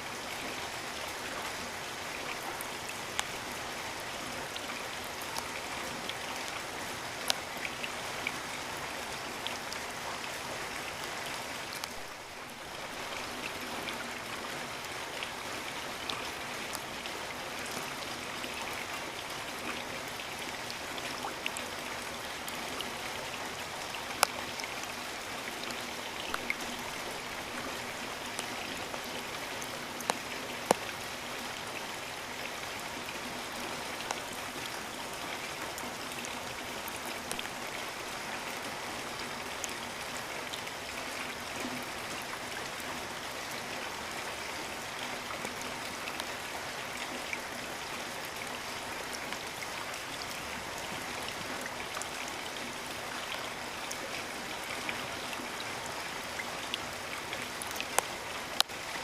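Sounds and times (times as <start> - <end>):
raindrops striking close by: 0.0 - 59.0
steady rain: 0.0 - 59.0.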